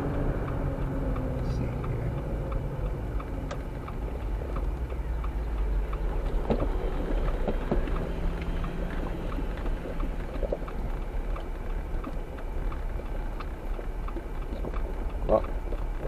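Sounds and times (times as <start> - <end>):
light regular ticking: 0.0 - 16.0
vehicle low rumble from inside: 0.0 - 16.0.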